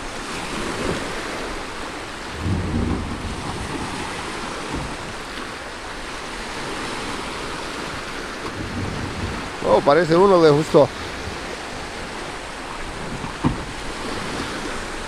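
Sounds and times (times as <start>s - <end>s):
small waves breaking on shore: 0.0s - 15.0s
wind rumbling on microphone: 0.0s - 15.0s.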